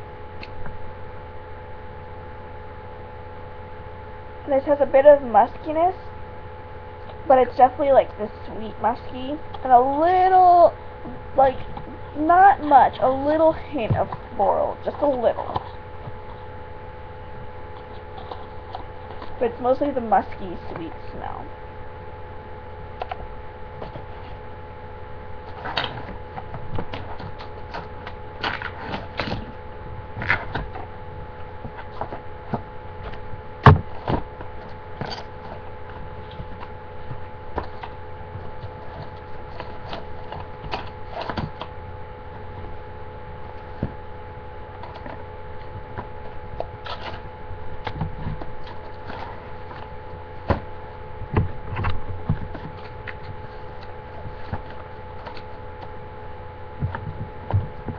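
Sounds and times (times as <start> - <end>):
electrical hum: 0.0 - 57.9.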